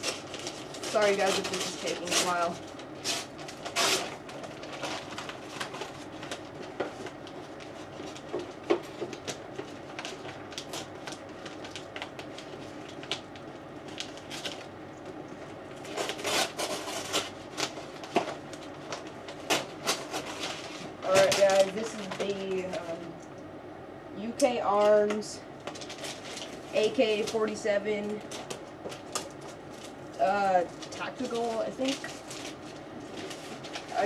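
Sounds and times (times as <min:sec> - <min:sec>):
cardboard and packing rustling: 0:00.0 - 0:23.0, 0:24.7 - 0:34.0.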